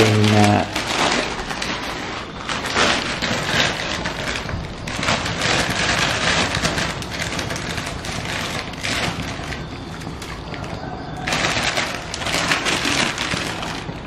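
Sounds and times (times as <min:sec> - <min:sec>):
small crackles and ticks: 0:00.0 - 0:14.0
water heating in a wok: 0:00.0 - 0:14.0.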